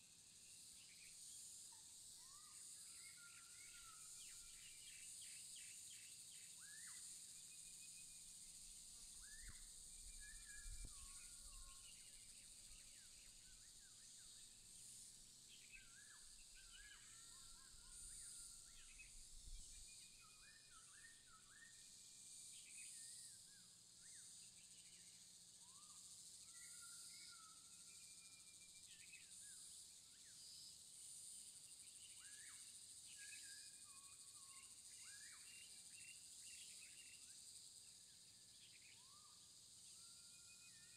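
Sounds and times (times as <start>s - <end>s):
small birds chirping: 0.2s - 27.6s, 28.6s - 40.9s
high-pitched insect drone: 2.2s - 29.8s, 30.4s - 40.9s.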